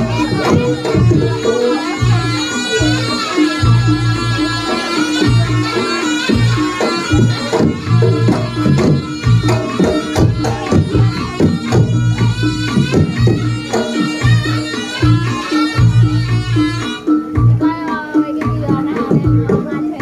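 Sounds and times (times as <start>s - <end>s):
drums and gongs rhythm: 0.0s - 20.0s
reedy shawm melody: 0.0s - 20.0s.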